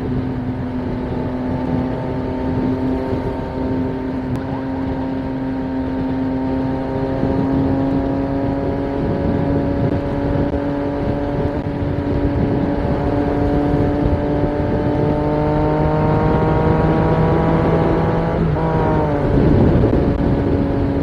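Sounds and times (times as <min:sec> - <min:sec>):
motorcycle engine accelerating: 0:00.0 - 0:21.0
wind and road rush: 0:00.0 - 0:21.0.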